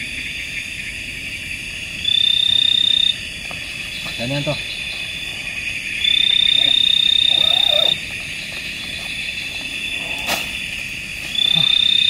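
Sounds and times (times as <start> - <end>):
loud high frog call: 0.0 - 8.2, 9.1 - 12.0
frogs and insects chirring: 0.0 - 12.0.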